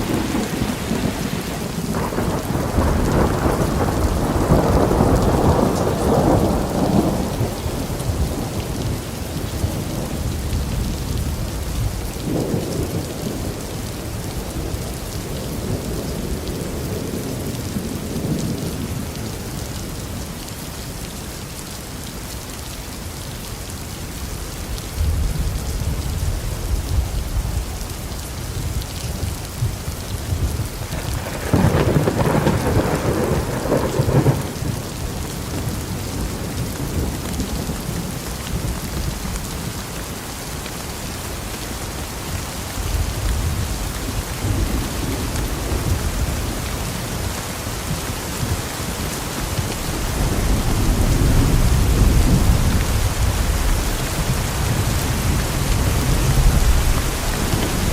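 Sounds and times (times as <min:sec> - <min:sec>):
thunder clap and rumble: 0:00.0 - 0:19.4, 0:24.9 - 0:39.8, 0:42.7 - 0:57.9
steady rain: 0:00.0 - 0:57.9.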